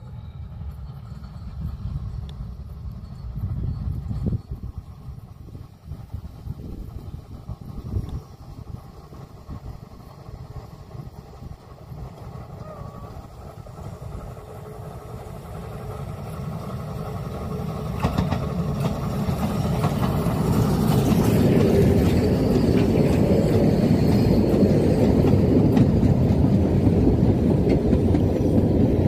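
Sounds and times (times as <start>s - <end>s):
steam train passing: 0.0s - 29.0s.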